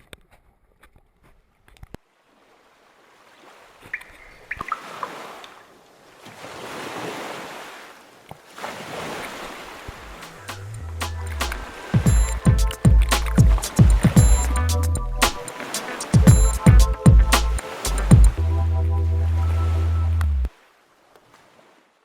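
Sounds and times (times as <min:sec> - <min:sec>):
ocean waves washing in: 0:02.3 - 0:21.8.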